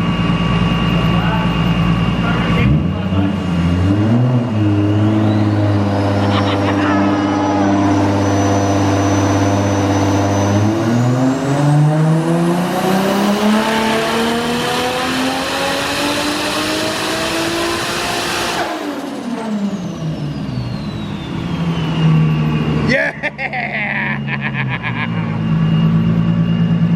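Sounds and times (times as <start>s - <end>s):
engine revving on dyno: 0.0s - 23.0s
turbo whine: 0.0s - 26.9s.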